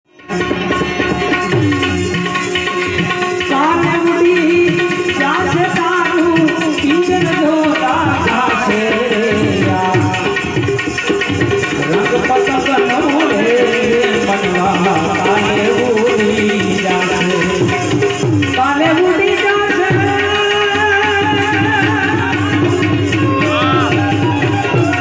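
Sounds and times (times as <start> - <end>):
harmonium melody: 0.1 - 25.0
steady drum beat: 0.4 - 25.0.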